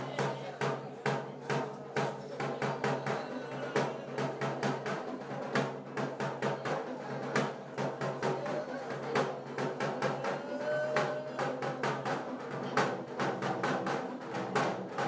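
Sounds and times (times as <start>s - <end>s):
drum beating steady rhythm: 0.0s - 15.0s.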